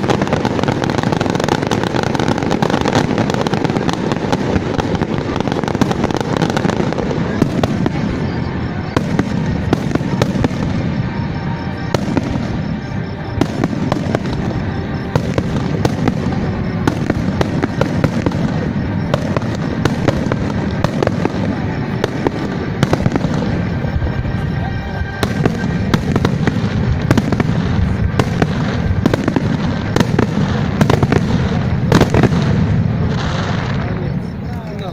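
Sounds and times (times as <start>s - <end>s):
fireworks cracking: 0.0s - 34.9s.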